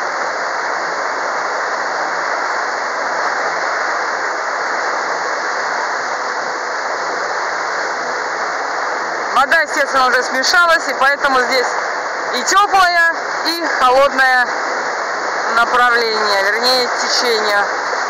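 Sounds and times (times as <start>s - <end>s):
water rushing in boat wake: 0.0s - 18.0s.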